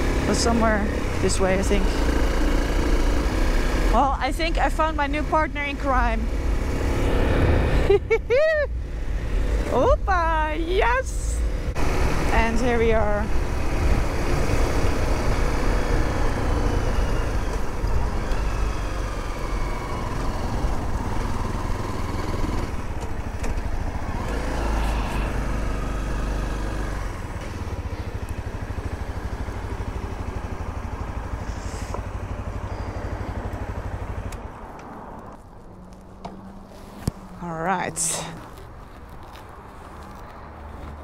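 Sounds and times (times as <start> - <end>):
motorcycle engine running: 0.0 - 8.1, 8.7 - 41.0.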